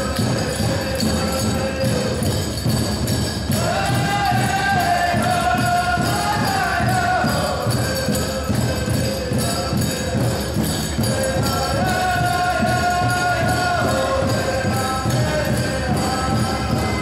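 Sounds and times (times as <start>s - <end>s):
high-pitched chanted singing: 0.0s - 17.0s
pounding drumbeat: 0.0s - 17.0s.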